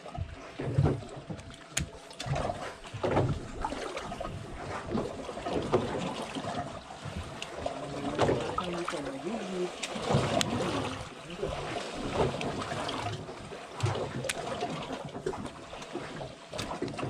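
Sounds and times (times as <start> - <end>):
water slapping against boat hull: 0.0 - 17.0.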